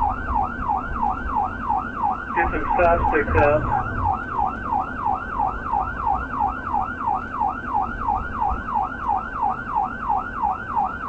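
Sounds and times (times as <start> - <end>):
car engine and tyres rumble: 0.0 - 11.0
police siren yelping: 0.0 - 11.0.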